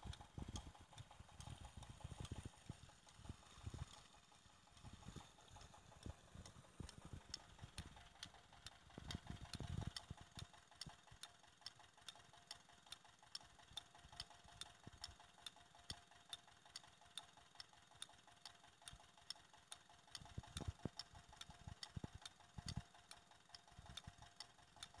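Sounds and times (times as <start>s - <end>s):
diesel engine ticking: 0.0s - 25.0s.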